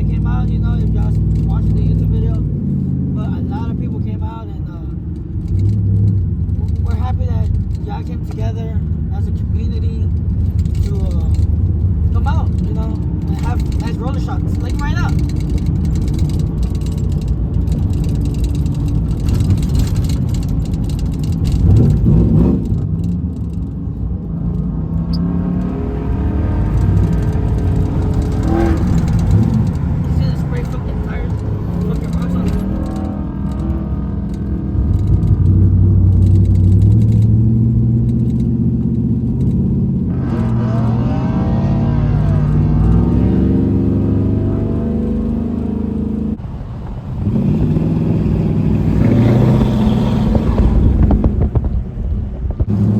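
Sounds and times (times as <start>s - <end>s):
vehicle engine revving: 0.0s - 52.9s.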